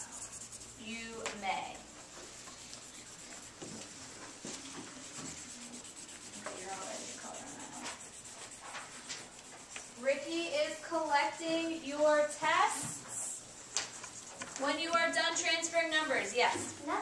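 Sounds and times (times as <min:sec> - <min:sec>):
papers rustling and rubbing: 0:00.0 - 0:11.0, 0:12.7 - 0:16.8.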